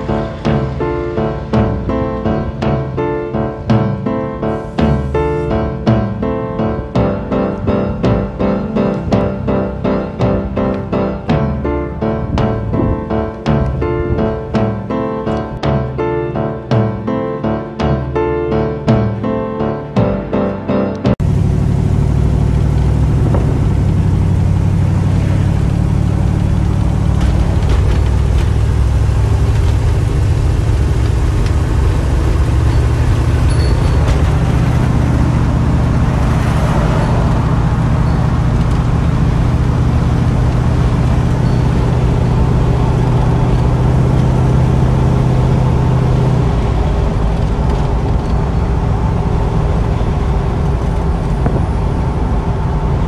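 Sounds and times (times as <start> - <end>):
car engine running: 0.0 - 15.8, 21.1 - 53.0
road noise: 0.0 - 53.0.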